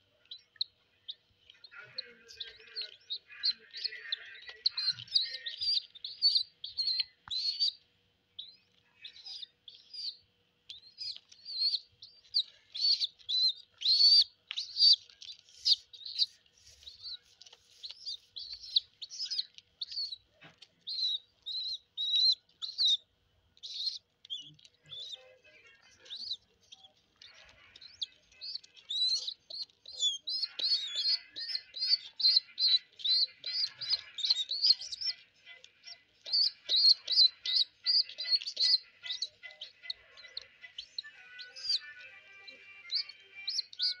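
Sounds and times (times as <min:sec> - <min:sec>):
baby pigeons peeping: 0:00.0 - 0:44.0.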